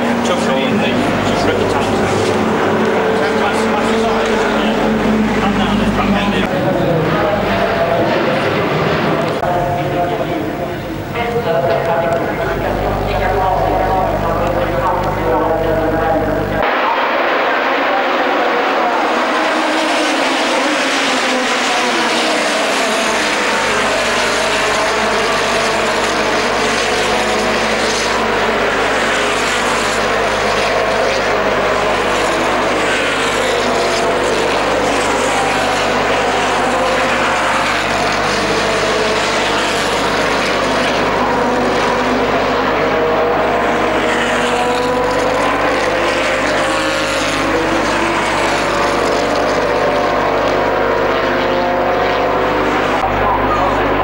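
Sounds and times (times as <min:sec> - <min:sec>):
racing car engines at high revs: 0:00.0 - 0:54.0.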